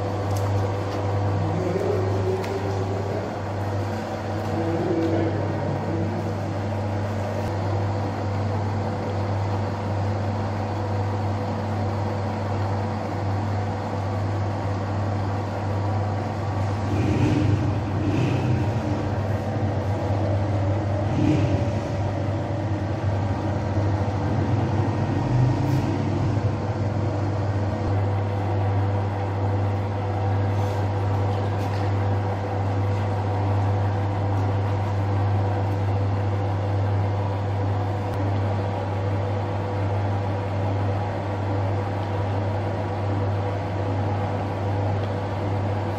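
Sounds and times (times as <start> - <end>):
dough mixer motor humming: 0.0 - 45.9.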